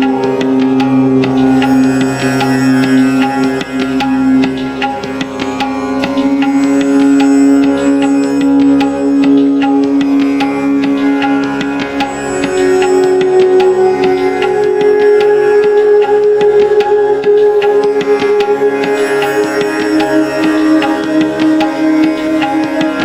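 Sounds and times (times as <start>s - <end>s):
held drone tones: 0.0s - 23.0s.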